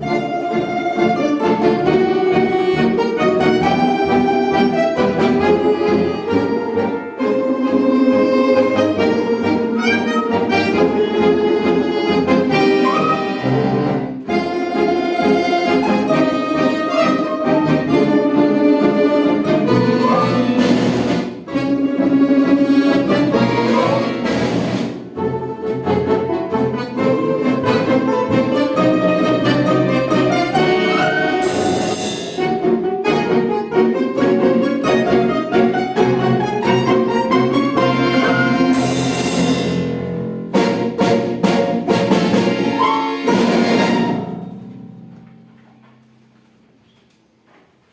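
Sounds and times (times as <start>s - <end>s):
folk orchestra with accordions: 0.0s - 44.4s.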